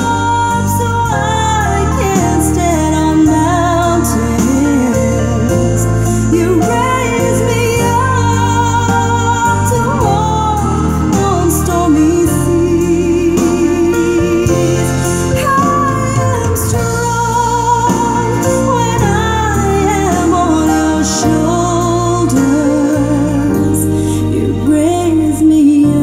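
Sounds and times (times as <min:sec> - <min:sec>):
bass line: 0:00.0 - 0:26.0
person singing: 0:00.0 - 0:26.0.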